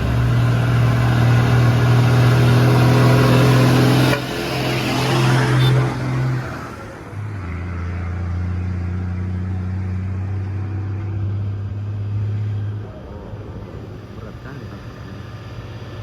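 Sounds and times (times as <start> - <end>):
truck engine labouring uphill: 0.0 - 16.0.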